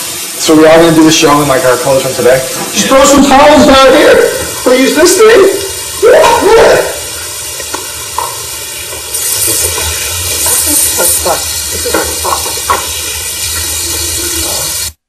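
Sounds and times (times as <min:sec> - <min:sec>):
water running from faucet: 0:00.0 - 0:15.0.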